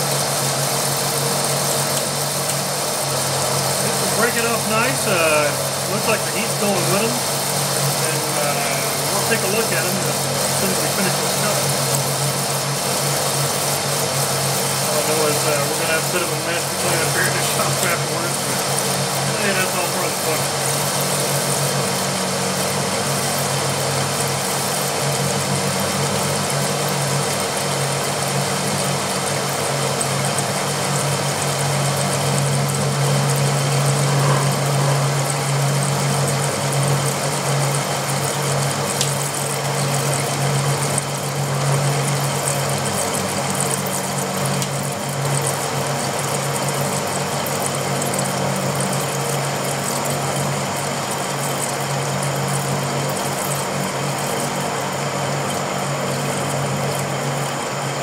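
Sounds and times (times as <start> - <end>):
lathe drive humming: 0.0 - 58.0.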